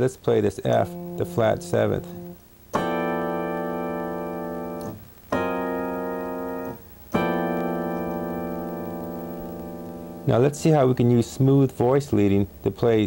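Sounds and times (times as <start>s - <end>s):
synthesizer chord: 0.8s - 11.6s.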